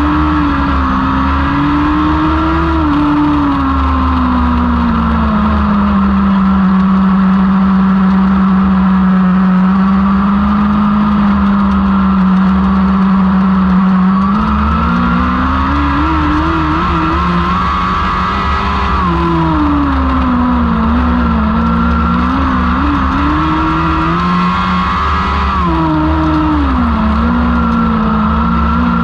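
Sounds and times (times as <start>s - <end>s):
motorcycle engine running hard: 0.0s - 29.0s.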